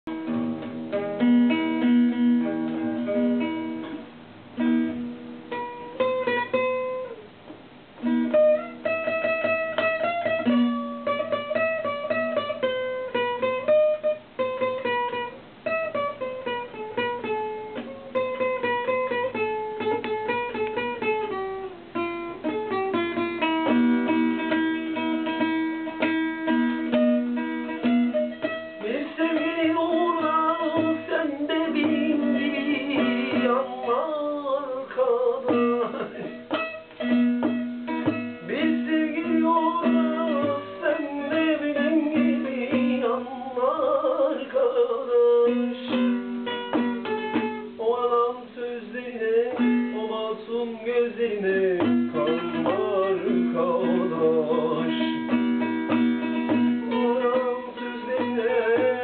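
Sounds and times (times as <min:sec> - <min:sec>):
plucked string instrument melody: 0:00.0 - 0:59.0.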